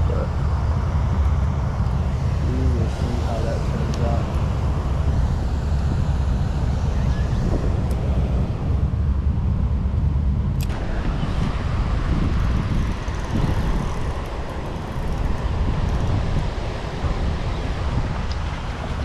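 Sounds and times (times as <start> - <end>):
steady rushing hiss: 0.0 - 19.0
wind buffeting microphone: 0.0 - 19.0.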